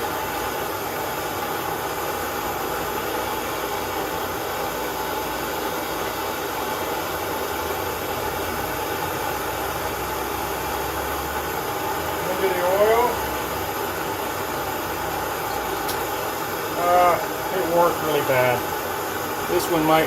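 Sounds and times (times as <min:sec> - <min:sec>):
forge burner flame hissing: 0:00.0 - 0:20.0.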